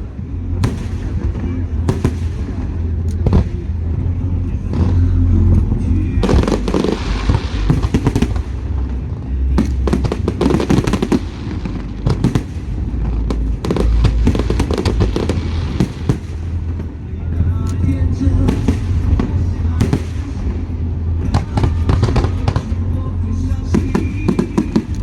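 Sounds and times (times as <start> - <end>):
deep rumble: 0.0 - 25.0
fireworks crackling bangs: 0.0 - 25.0.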